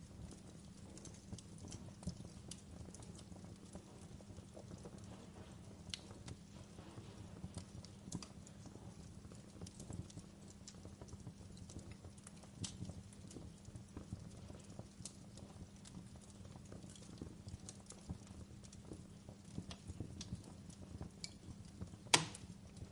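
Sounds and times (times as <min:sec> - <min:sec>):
logs crackling and popping: 0:00.0 - 0:22.9
low rumble of fire: 0:00.0 - 0:22.9.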